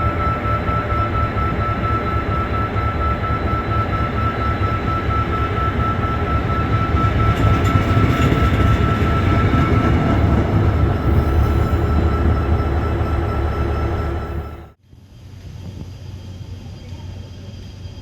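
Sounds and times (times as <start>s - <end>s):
steady high-pitched tone: 0.0s - 14.8s
train rumbling: 0.0s - 14.8s.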